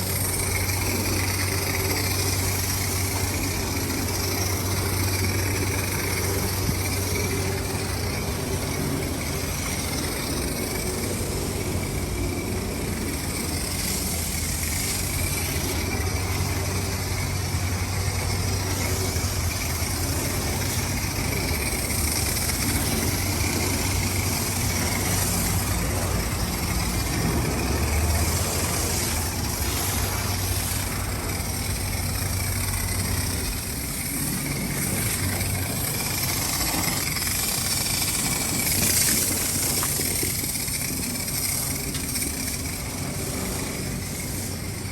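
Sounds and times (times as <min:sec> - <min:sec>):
car engine running: 0:00.0 - 0:44.9
exhaust hiss: 0:00.0 - 0:44.9.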